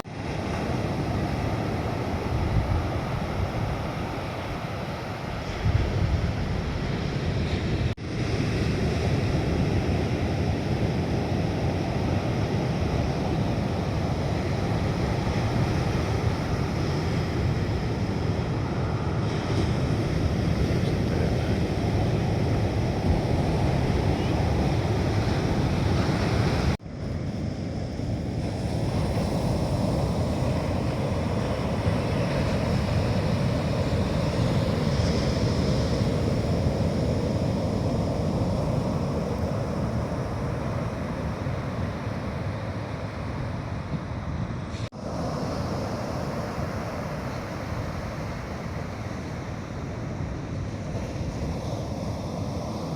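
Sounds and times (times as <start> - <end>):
sea waves breaking on beach: 0.0 - 52.9
wind buffeting microphone: 0.2 - 44.9.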